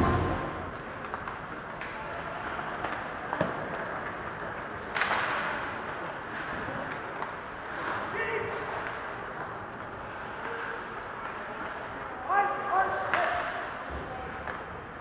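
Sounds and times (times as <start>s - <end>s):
arena hall noise: 0.0s - 15.0s
hockey sticks and puck clacking: 0.0s - 15.0s.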